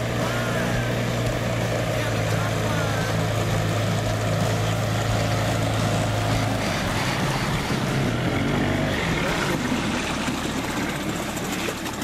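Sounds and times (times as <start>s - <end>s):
engine low hum: 0.0s - 12.0s
steady rushing noise: 0.0s - 12.0s.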